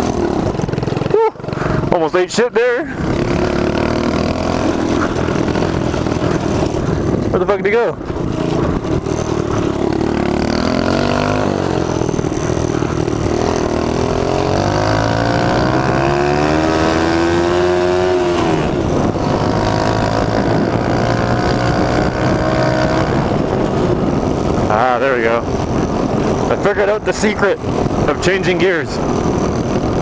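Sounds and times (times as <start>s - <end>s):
small engine revving: 2.9s - 30.0s.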